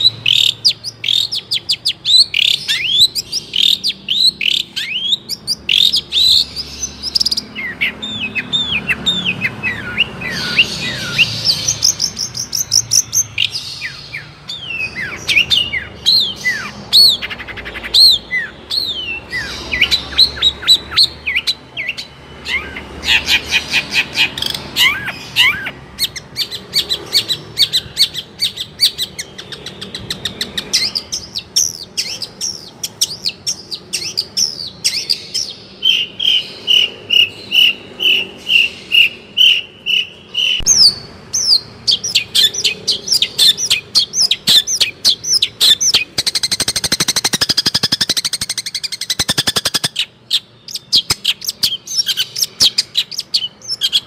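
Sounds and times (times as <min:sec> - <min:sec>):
bird singing chirps and whistles: 0:00.0 - 0:54.0.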